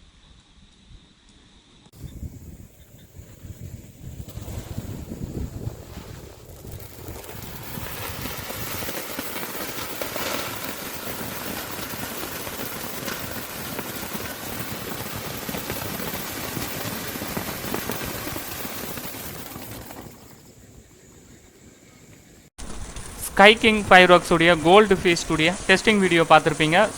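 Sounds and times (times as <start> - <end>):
fireworks fountain hissing sparks: 2.0 - 20.2, 22.6 - 26.9.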